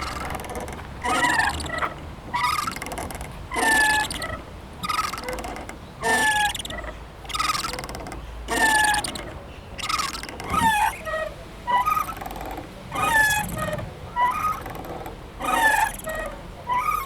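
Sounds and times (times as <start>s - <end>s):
swing squeaking: 0.0s - 17.0s.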